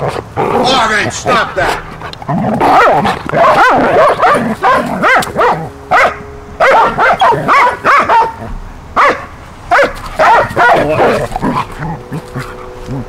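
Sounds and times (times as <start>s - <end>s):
dogs barking while play-fighting: 1.7s - 13.0s.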